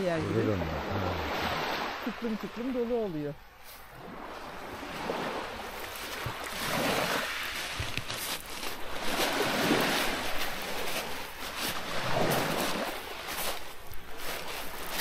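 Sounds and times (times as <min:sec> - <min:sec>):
small waves on pebble beach: 0:00.0 - 0:15.0.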